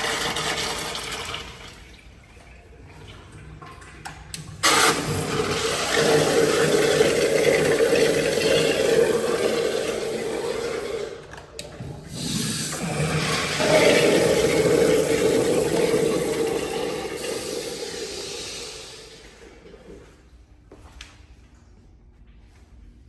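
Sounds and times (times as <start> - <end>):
toilet flushing water rushing: 0.0 - 19.8.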